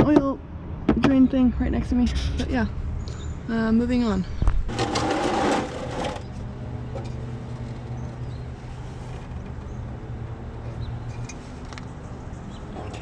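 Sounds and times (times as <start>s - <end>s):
engine humming: 1.0s - 11.9s.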